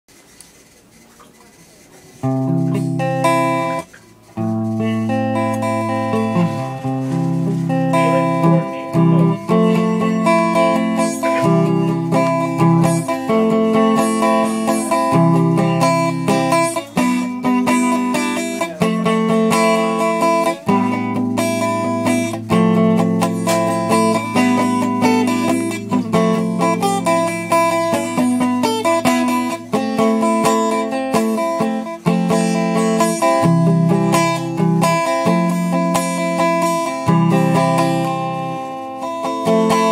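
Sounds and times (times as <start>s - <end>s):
electric guitar chords and notes: 2.2s - 39.9s.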